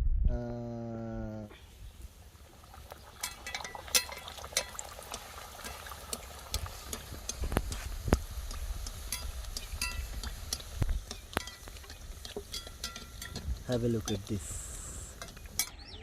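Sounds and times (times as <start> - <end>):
hot oil crackling and popping: 1.7 - 16.0.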